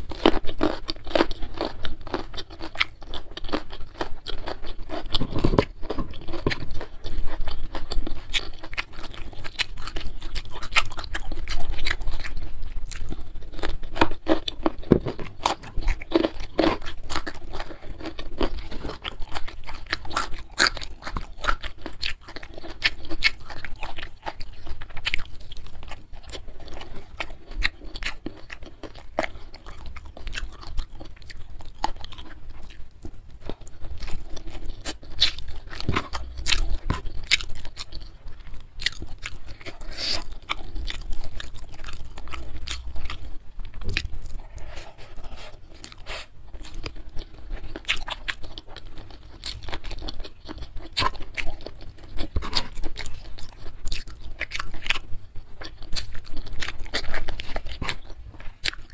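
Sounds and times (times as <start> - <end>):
chewing with crisp crunches: 0.0 - 58.9.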